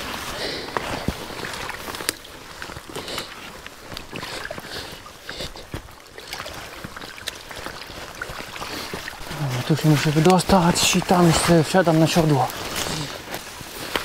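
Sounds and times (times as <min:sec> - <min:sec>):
splashing through wet marsh: 0:00.0 - 0:14.0.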